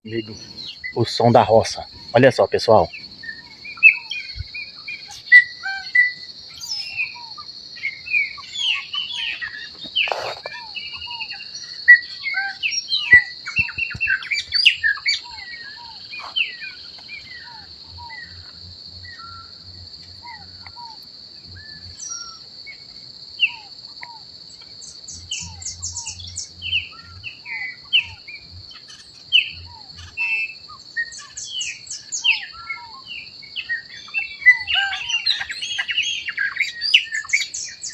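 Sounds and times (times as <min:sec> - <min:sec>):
birds chirping: 0:00.0 - 0:37.9
insect drone: 0:00.0 - 0:37.9.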